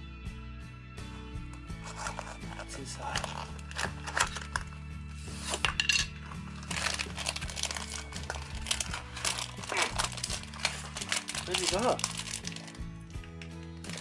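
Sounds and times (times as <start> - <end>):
background music: 0.0 - 14.0
plastic packaging crinkling: 1.8 - 14.0.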